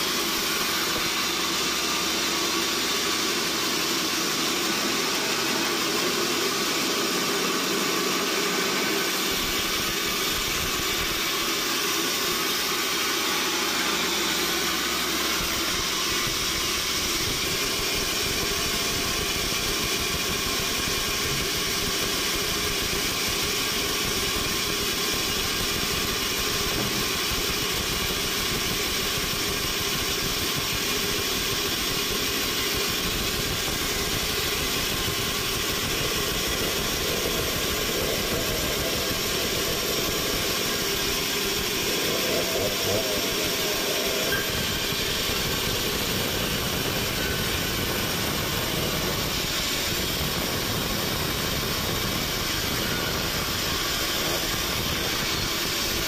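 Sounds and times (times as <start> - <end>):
band saw cutting through log: 0.0 - 56.0.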